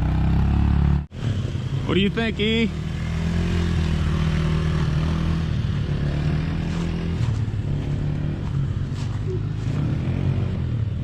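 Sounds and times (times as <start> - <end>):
off-road bike engine running: 0.0 - 11.0.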